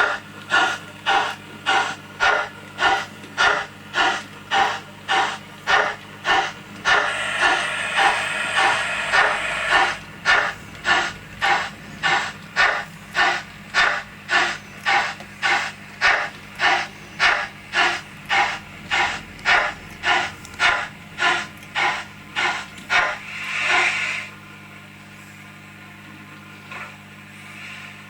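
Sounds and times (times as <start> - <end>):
steam hiss: 0.0 - 24.4
model steam locomotive chuffs: 0.0 - 25.6.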